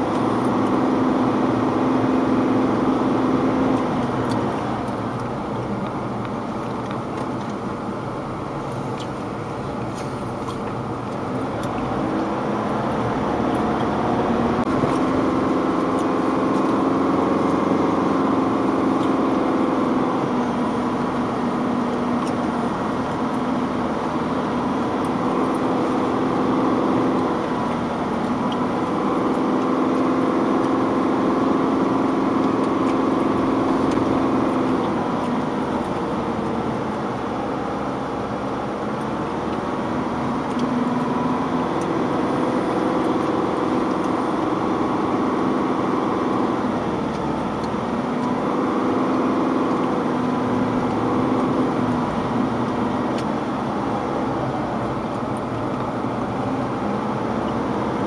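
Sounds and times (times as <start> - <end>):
car engine under load: 0.0 - 58.0.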